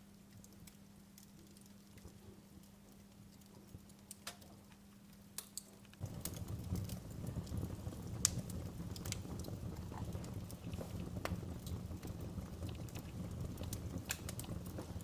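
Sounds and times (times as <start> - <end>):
fire crackling and popping: 0.2 - 15.0
low rumble of flames: 0.6 - 15.0.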